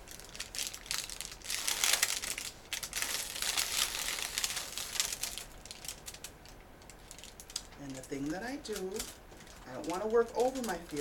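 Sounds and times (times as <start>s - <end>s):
paper wrapper crinkling: 0.0s - 11.0s.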